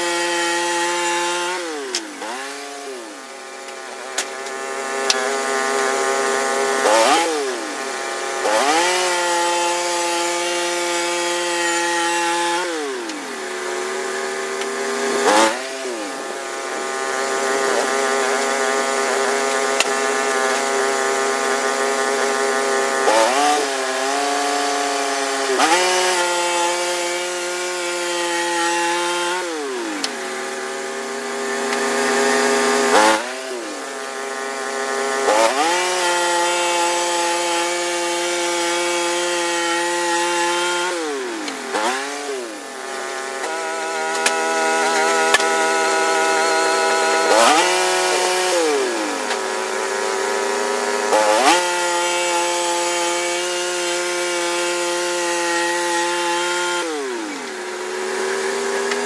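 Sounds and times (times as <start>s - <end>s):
band sawmill sawing a log: 0.0s - 59.0s.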